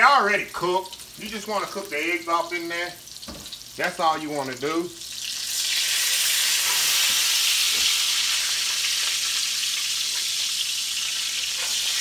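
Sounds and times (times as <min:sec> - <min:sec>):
patties sizzling in oil: 0:00.0 - 0:12.0.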